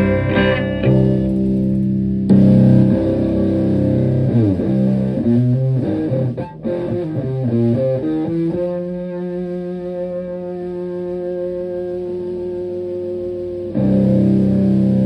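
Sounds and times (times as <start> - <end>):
fuzzed electric guitar: 0.0 - 15.0.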